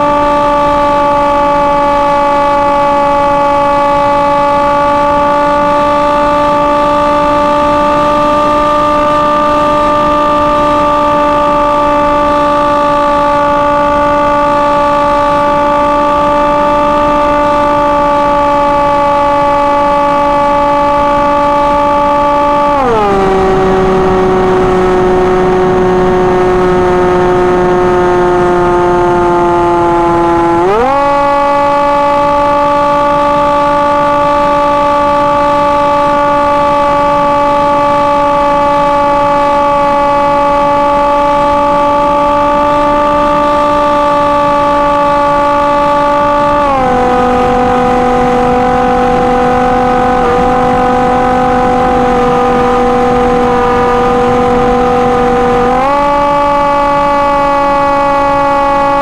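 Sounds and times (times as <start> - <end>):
model plane motor whining: 0.0 - 59.0.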